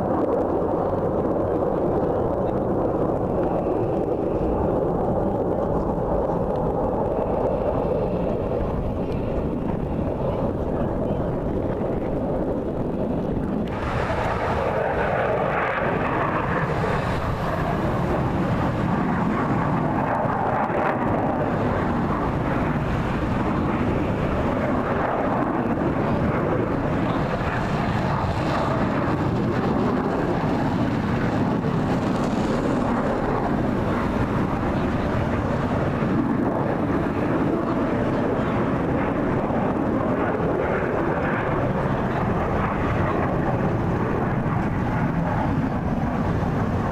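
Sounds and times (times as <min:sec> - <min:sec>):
airplane engine noise: 0:00.0 - 0:46.9.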